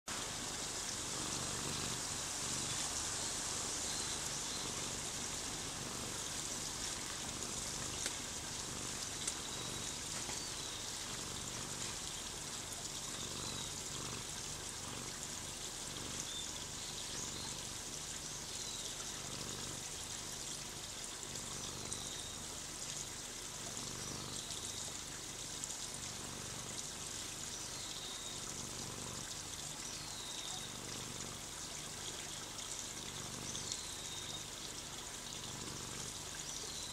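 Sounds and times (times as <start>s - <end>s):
steady rushing hiss: 0.1s - 36.9s.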